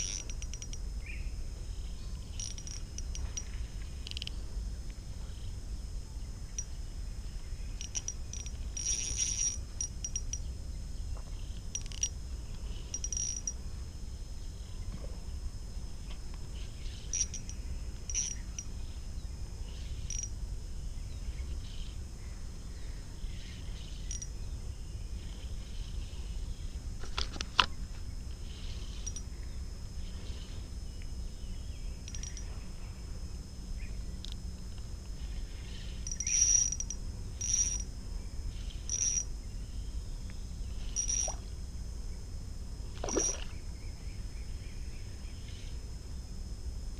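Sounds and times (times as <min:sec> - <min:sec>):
bird and insect chirps: 0:00.0 - 0:46.4
high insect drone: 0:00.0 - 0:46.9.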